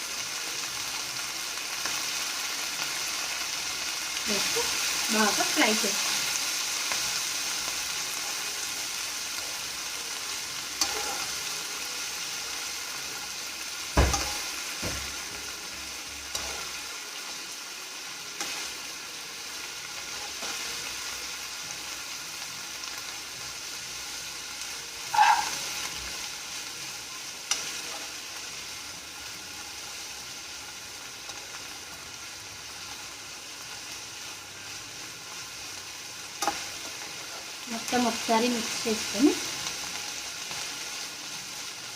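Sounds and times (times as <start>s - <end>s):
onions sizzling in oil: 0.0s - 41.9s.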